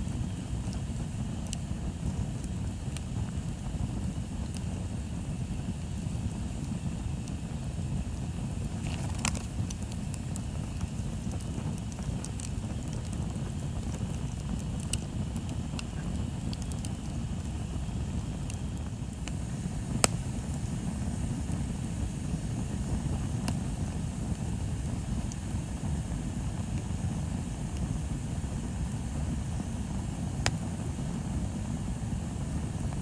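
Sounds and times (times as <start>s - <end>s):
bonfire crackling: 0.0s - 33.0s.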